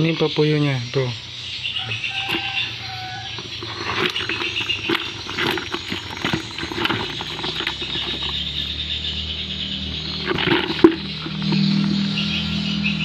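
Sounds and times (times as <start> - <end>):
fish flapping and splashing in water: 1.8 - 13.0.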